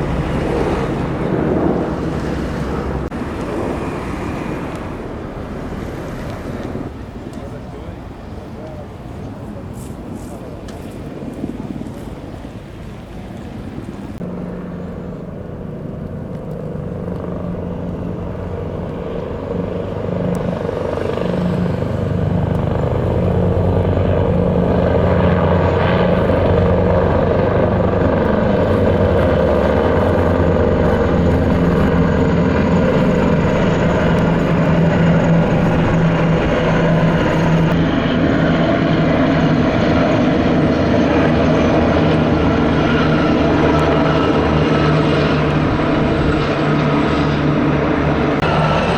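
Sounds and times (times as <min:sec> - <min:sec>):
aircraft engine drone: 0:00.0 - 0:48.9.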